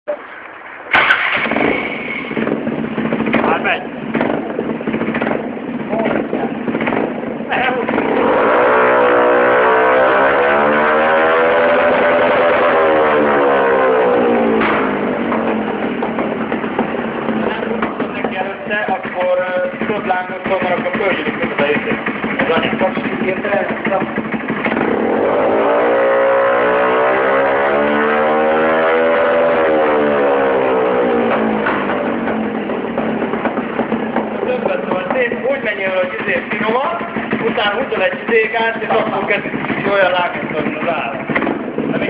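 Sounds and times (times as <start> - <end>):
scooter engine revving: 0.9 - 42.0.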